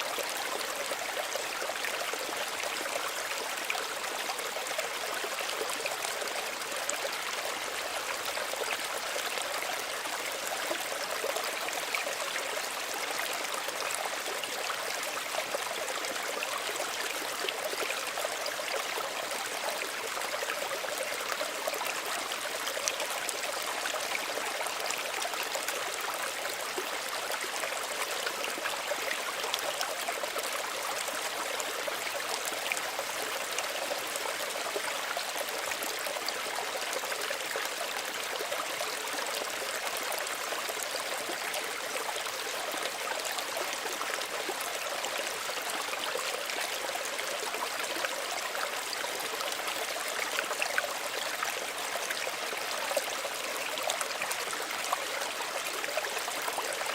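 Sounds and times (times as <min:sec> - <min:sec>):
stream babbling over stones: 0:00.0 - 0:56.9.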